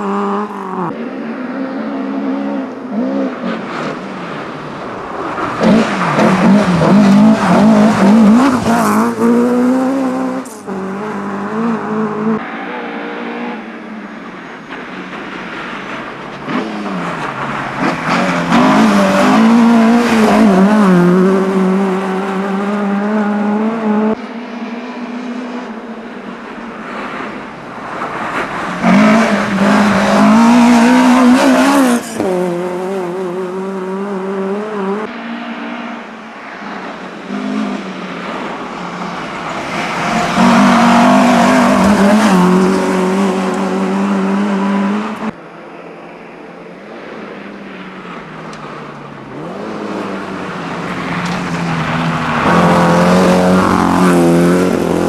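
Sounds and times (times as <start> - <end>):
rally car engines revving: 0.0 - 45.4, 47.0 - 55.0.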